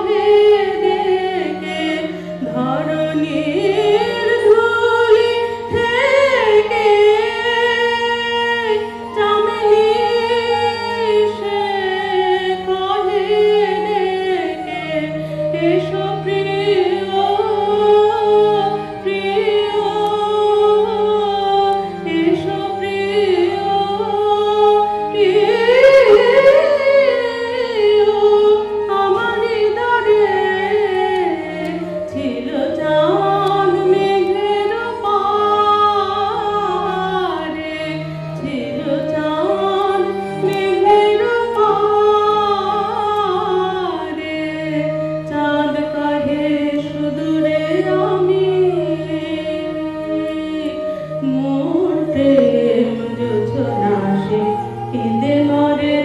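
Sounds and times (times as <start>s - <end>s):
bowed string accompaniment: 0.0s - 56.0s
harmonium: 0.0s - 56.0s
woman singing: 0.0s - 56.0s.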